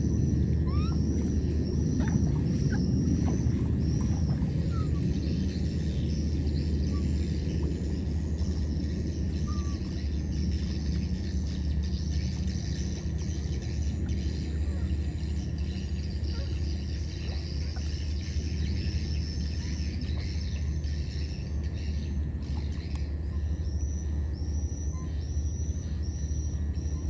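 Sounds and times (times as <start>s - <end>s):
high-pitched chirping and buzzing: 0.0s - 27.0s
steady low rumble: 0.0s - 27.0s.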